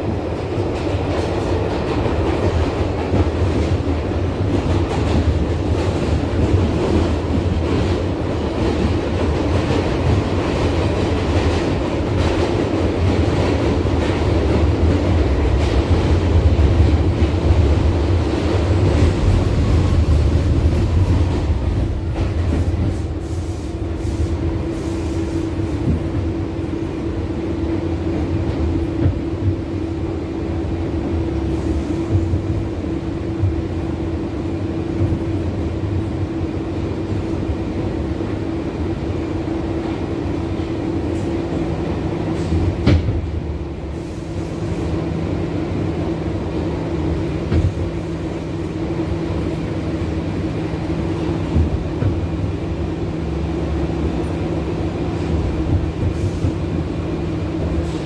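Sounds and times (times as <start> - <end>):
subway car rumbling on track: 0.0 - 58.0.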